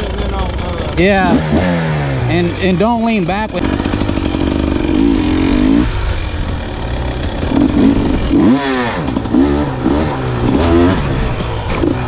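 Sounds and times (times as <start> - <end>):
dirt bike engine revving: 1.1 - 12.0.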